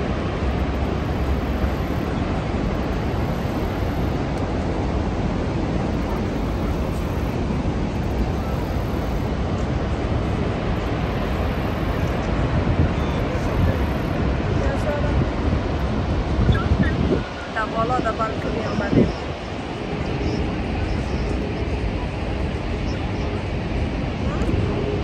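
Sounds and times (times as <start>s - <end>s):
large waterfall rushing: 0.0s - 25.0s.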